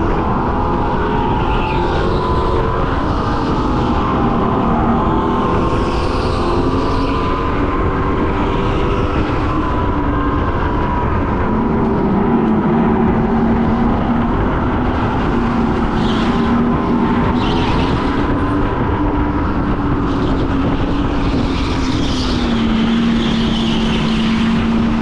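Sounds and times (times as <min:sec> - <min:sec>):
go-kart engine racing: 0:00.0 - 0:25.0.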